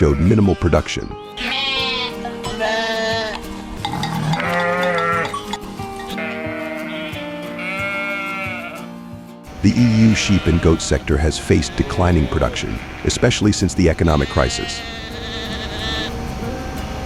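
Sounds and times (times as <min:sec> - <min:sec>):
sheep bleating: 0:00.0 - 0:00.8, 0:01.4 - 0:16.4
background music: 0:00.0 - 0:17.0.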